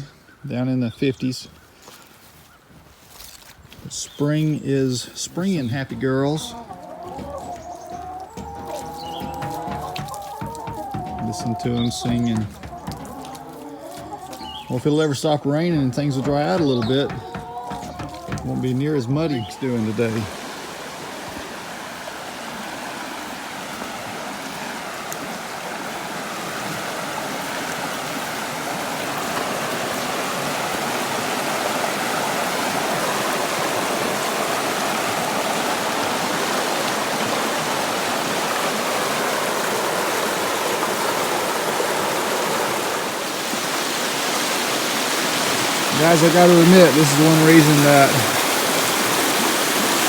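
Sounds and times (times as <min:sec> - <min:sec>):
creek rushing over rock: 0:03.8 - 0:50.0.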